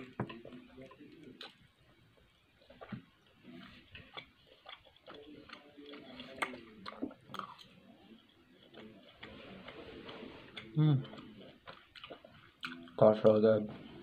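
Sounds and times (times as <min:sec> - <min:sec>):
person chewing wetly: 0:00.0 - 0:13.4.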